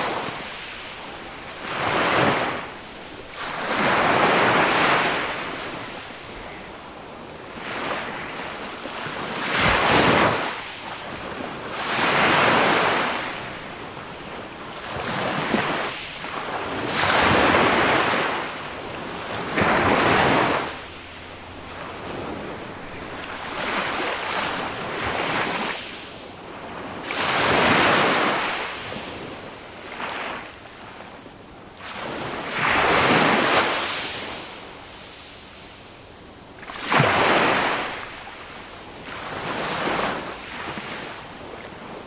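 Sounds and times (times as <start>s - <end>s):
small waves breaking on beach: 0.0s - 42.0s.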